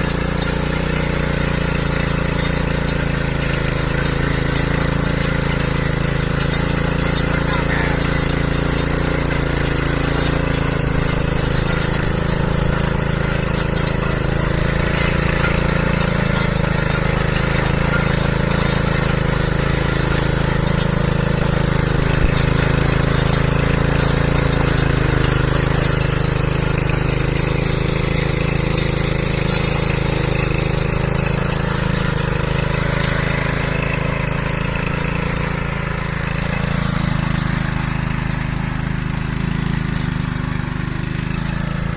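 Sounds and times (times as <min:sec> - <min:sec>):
cultivator engine droning: 0:00.0 - 0:41.9.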